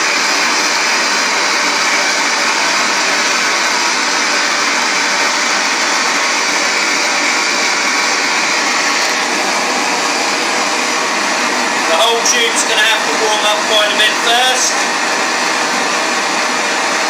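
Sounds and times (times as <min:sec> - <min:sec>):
gas torch hissing: 0:00.0 - 0:16.3.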